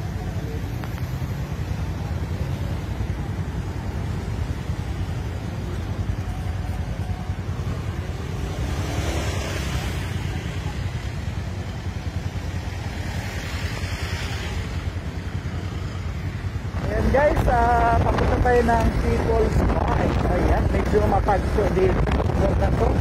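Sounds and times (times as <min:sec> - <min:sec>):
passing traffic: 0:00.0 - 0:23.0.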